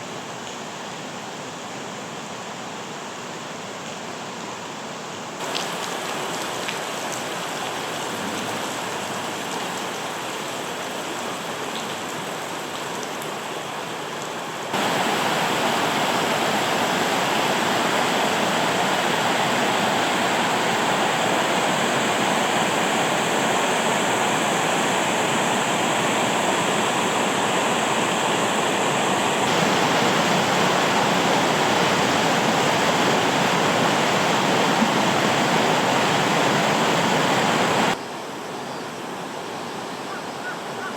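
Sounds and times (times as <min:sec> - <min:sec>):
mountain stream rushing: 0:00.0 - 0:40.0.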